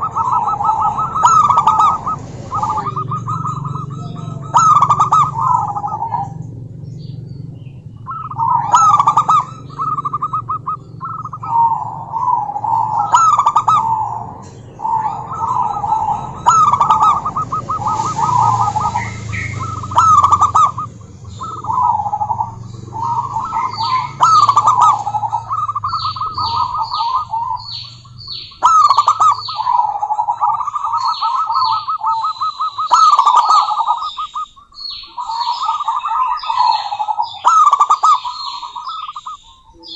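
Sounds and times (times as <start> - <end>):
bird high falling chirps: 0.0 - 39.9
dove cooing trilled phrases: 0.0 - 39.9.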